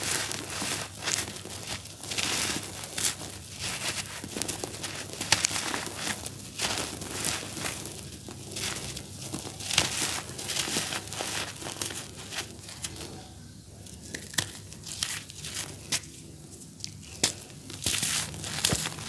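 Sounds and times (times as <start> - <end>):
charcoal crushed by hands: 0.0 - 13.2, 13.8 - 19.0
powder pattering: 0.0 - 19.0.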